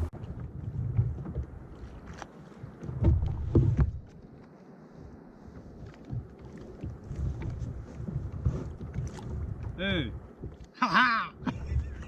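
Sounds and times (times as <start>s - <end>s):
wind rumble on microphone: 0.0s - 10.6s, 11.3s - 12.0s.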